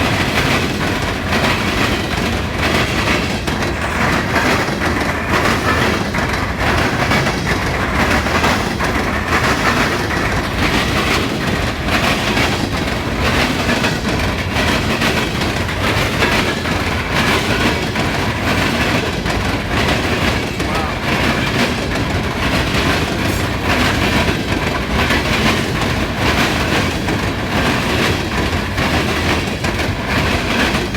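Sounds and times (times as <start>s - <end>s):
steady rail roar: 0.0s - 30.9s
train wheels banging over crossings: 0.0s - 30.9s.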